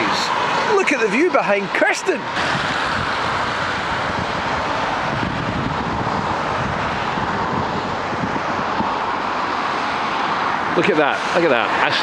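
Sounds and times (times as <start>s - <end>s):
outdoor rushing noise: 0.0s - 12.0s.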